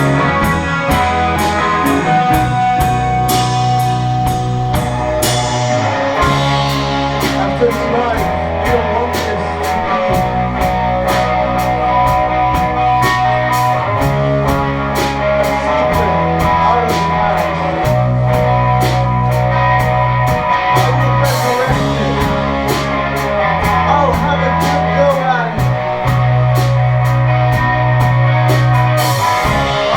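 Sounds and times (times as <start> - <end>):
bass guitar low notes: 0.0 - 29.9
drum kit cymbal beat: 0.0 - 29.9
electric guitars: 0.0 - 29.9.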